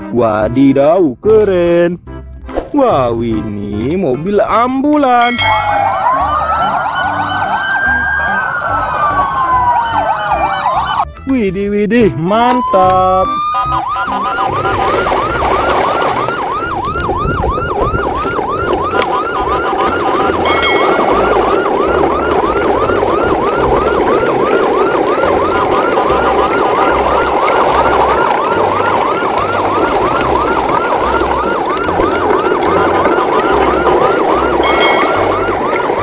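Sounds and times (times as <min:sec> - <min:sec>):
fast siren yelp: 0:05.1 - 0:11.1, 0:12.4 - 0:36.0.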